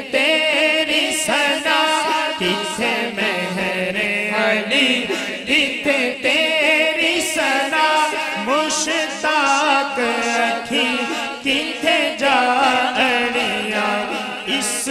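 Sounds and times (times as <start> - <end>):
man singing unaccompanied: 0.0 - 14.9.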